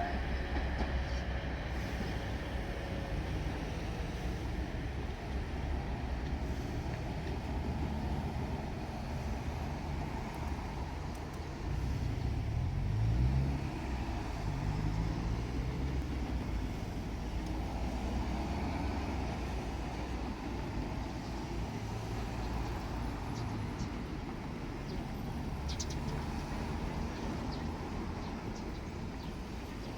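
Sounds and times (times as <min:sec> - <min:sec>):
vehicle engines rumbling: 0:00.0 - 0:29.9.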